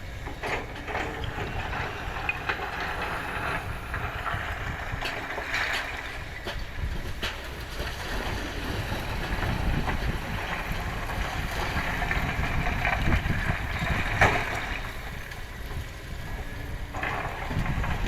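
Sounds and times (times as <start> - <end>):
excavator engine rumbling: 0.0 - 18.0.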